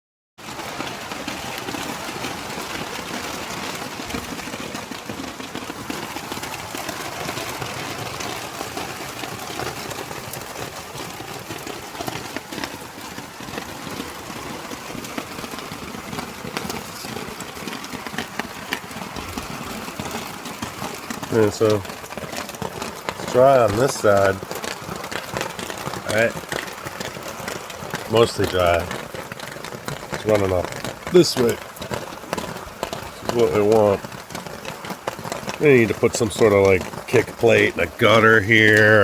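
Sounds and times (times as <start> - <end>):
heavy rain falling: 0.4 - 39.0
raindrops ticking: 0.4 - 39.0.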